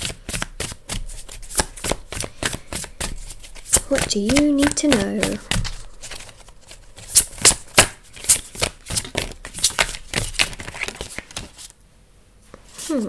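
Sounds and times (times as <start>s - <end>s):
cards shuffling: 0.0s - 11.8s.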